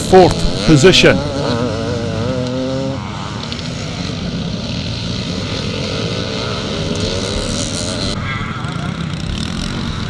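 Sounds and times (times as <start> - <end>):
motocross bike engines racing: 0.0 - 10.0.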